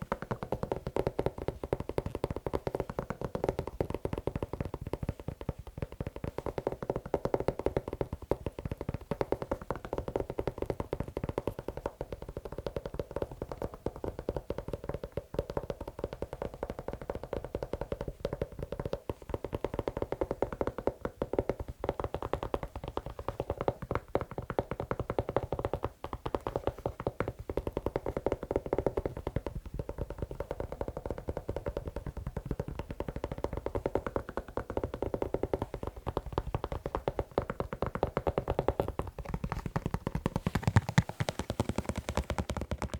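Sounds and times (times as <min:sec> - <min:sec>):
tapping and scratching on a shoe: 0:00.0 - 0:42.9.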